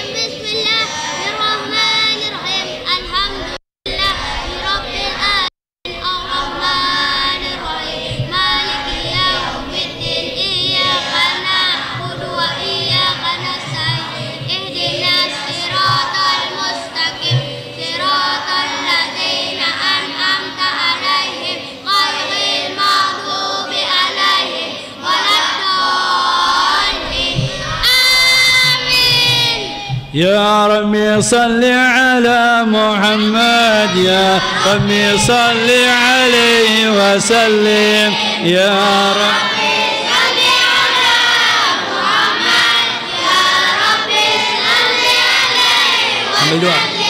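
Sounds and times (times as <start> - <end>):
children chanting in unison: 0.0 - 30.2, 32.2 - 47.0.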